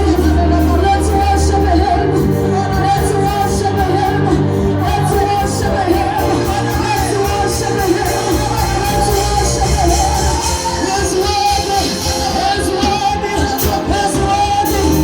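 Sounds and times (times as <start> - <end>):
gospel singing voices: 0.0 - 15.0
held bass notes: 0.0 - 15.0
steady drum beat: 0.0 - 15.0.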